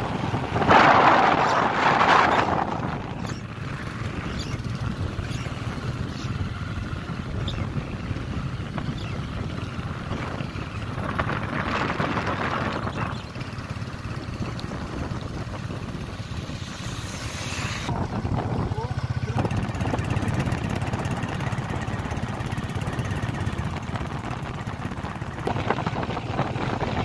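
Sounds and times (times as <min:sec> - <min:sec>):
road and wind noise: 0:00.0 - 0:27.0
vehicle engine running: 0:00.0 - 0:27.0.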